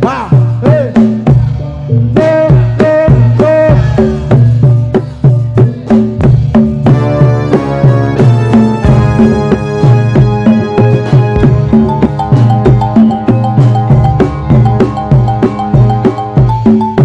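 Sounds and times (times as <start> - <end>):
hand drums in a driving rhythm: 2.2 - 17.0.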